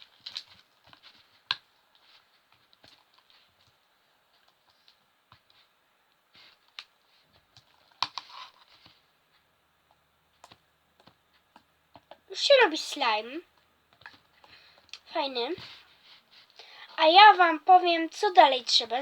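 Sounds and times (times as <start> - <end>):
slime squelching being mixed: 0.0 - 19.0.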